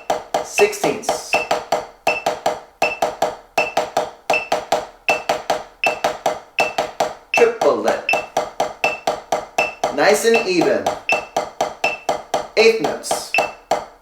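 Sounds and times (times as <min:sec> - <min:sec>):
drumstick on rubber practice pad: 0:00.0 - 0:14.0
metronome beep: 0:01.2 - 0:12.3, 0:13.2 - 0:13.7.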